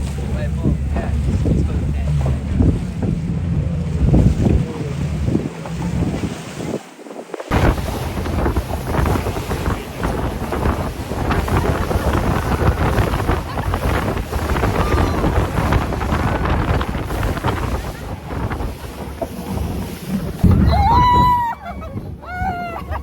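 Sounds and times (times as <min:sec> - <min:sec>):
water rushing under hull: 0:00.0 - 0:23.0
wind buffeting microphone: 0:00.0 - 0:23.0.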